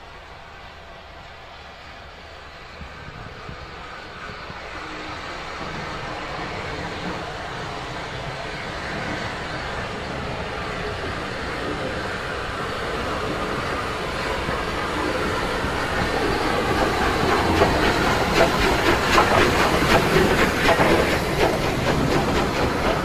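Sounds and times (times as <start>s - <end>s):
steam locomotive passing: 0.0s - 23.0s
train wheels clicking: 2.3s - 23.0s.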